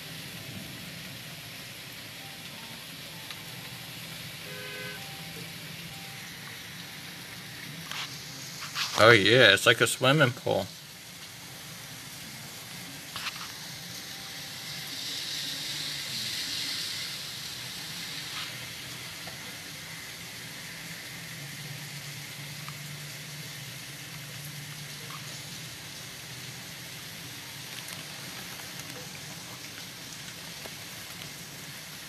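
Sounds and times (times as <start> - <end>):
heavy rain behind window: 0.0 - 32.0.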